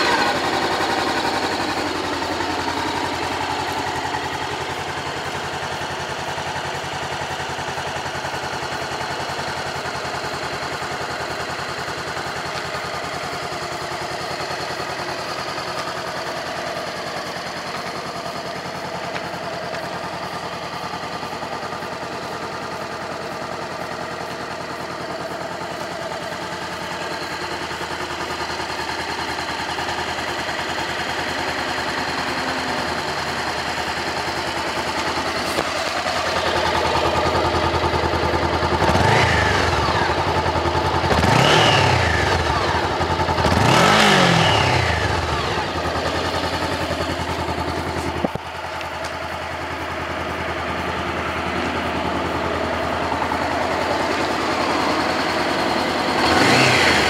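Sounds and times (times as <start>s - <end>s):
motorcycle engine idling: 0.0s - 57.0s
motorcycle engine revving: 0.0s - 57.0s.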